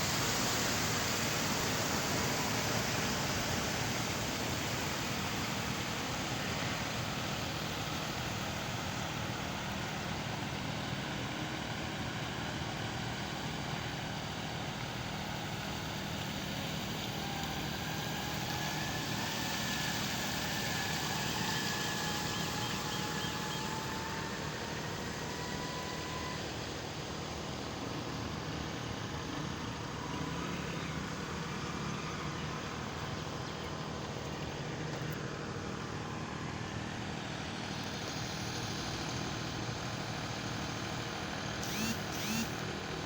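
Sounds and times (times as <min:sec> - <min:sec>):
faint rising whine: 0:00.0 - 0:43.0
street traffic engines: 0:00.0 - 0:43.0.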